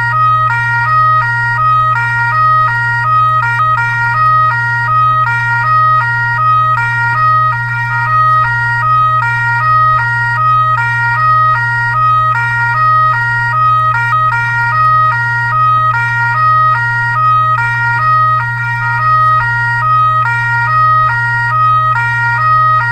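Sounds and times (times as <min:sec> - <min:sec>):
constant low hum: 0:00.0 - 0:22.9
two-tone siren: 0:00.0 - 0:22.9.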